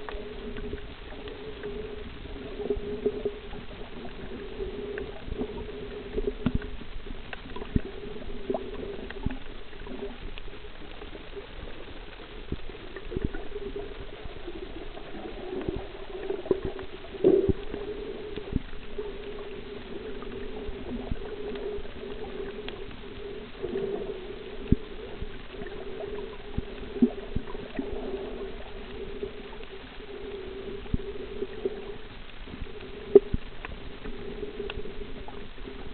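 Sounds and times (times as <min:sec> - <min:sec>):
underwater low hum: 0:00.0 - 0:35.9.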